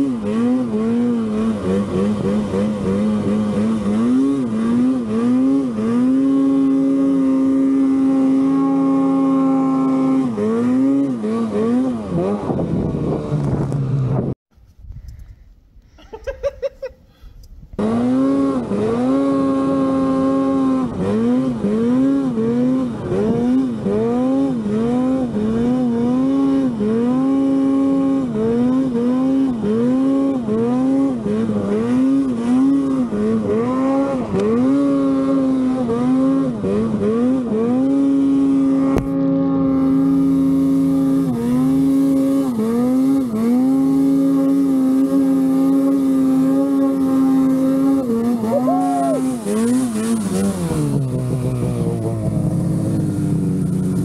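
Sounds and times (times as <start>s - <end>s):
snowmobile engine revving: 0.0s - 14.4s, 17.8s - 54.0s.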